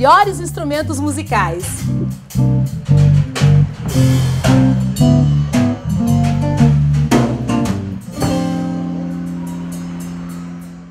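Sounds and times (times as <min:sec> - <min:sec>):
electric bass line: 0:00.0 - 0:09.8.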